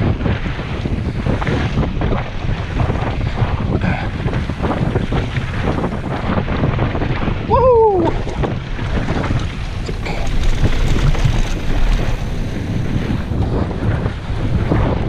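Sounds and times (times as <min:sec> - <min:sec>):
bike rumbling and rattling: 0:00.0 - 0:15.0
wind buffeting microphone: 0:00.0 - 0:15.0.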